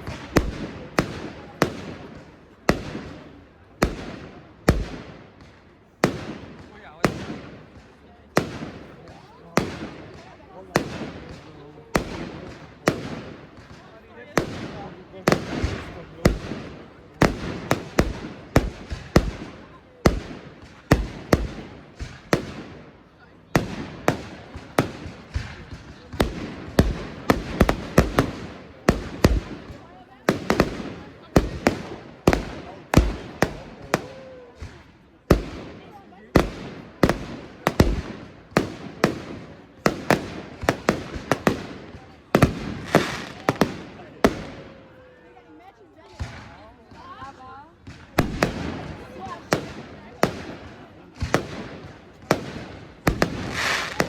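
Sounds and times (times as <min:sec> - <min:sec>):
fireworks bangs: 0:00.0 - 0:45.1, 0:46.0 - 0:54.0
fireworks rumble and crackle: 0:00.0 - 0:54.0.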